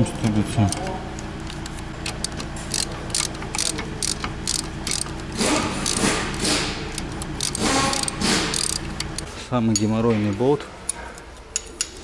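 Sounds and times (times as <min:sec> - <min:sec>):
ratchet wrench clicking: 0:00.0 - 0:09.9.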